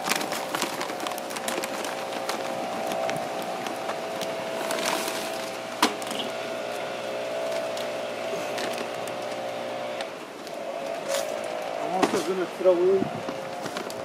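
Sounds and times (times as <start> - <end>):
charcoal crackling and clicking: 0.0 - 14.0.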